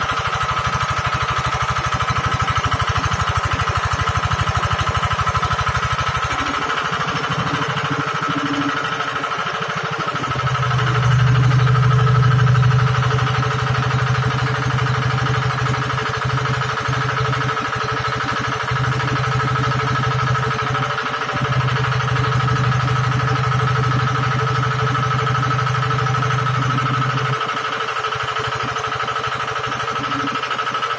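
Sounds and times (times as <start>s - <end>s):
drilling machine engine running: 0.0s - 30.9s.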